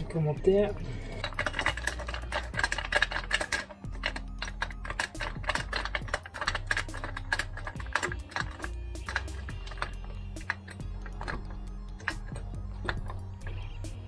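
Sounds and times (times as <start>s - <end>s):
ratchet wrench clicking: 1.2s - 14.0s.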